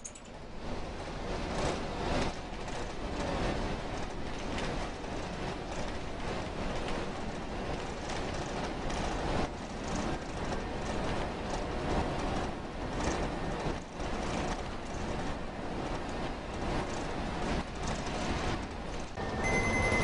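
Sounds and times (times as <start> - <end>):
moving vehicle rumbling: 0.0 - 20.0.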